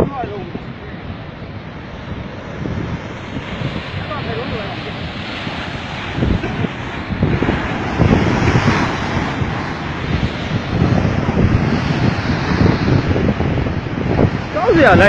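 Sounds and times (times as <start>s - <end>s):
flood water rushing: 0.0s - 15.0s
wind buffeting microphone: 0.0s - 15.0s.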